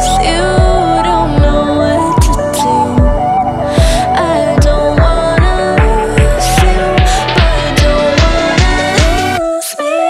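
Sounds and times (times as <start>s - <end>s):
music with bass drum beat: 0.0s - 3.2s, 3.8s - 9.5s.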